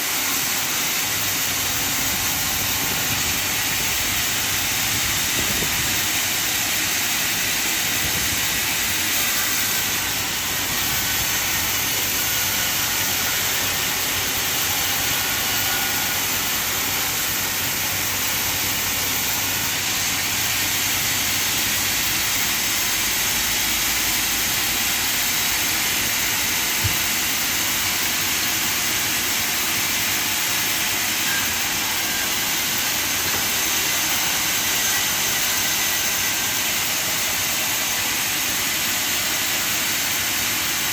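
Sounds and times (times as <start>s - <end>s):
sawmill machinery hissing: 0.0s - 40.9s.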